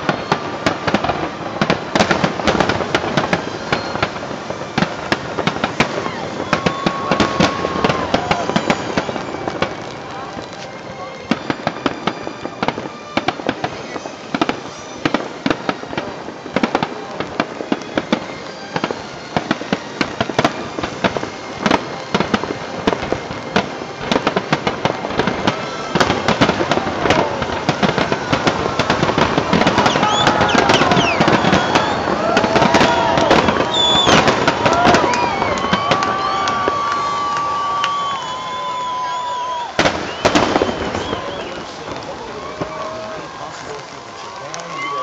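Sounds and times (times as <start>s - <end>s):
fireworks bursting and crackling: 0.0s - 45.0s
onlookers' voices: 0.0s - 45.0s.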